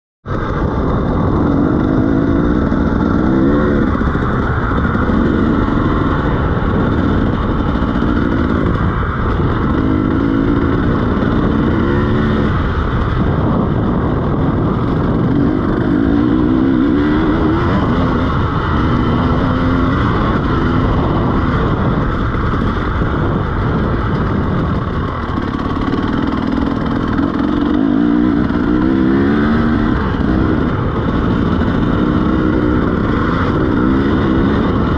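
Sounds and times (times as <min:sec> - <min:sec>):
steady rush of noise: 0:00.2 - 0:34.9
dirt bike engine revving: 0:00.3 - 0:34.9.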